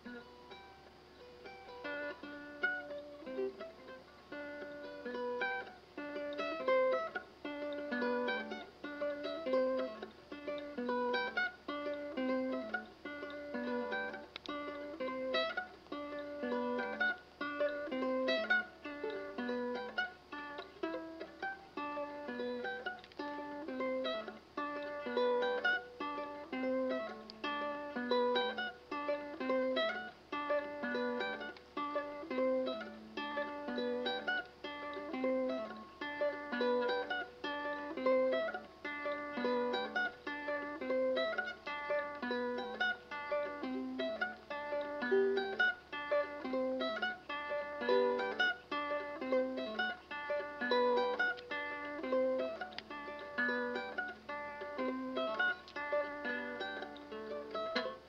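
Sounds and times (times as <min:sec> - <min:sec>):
plucked string instrument music: 0:00.0 - 0:58.0.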